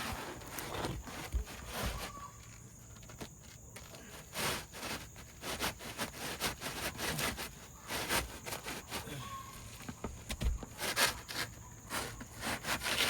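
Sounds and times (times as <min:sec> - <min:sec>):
scraping of roof shingles: 0:00.0 - 0:13.0.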